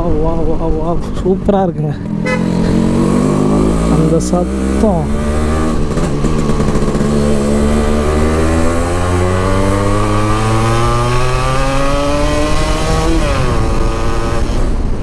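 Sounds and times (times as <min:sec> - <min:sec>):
motorcycle engine accelerating: 0:02.0 - 0:15.0.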